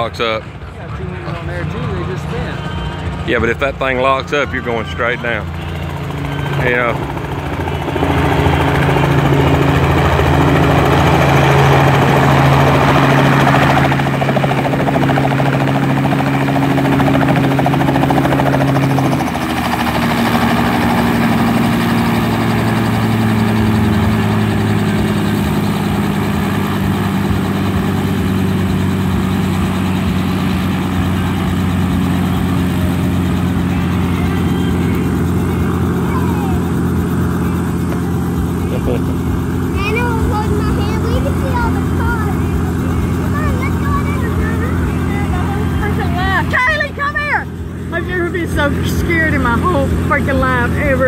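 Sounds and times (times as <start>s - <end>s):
helicopter engine and rotor: 0.0s - 51.0s
rotor wash buffeting microphone: 0.0s - 51.0s.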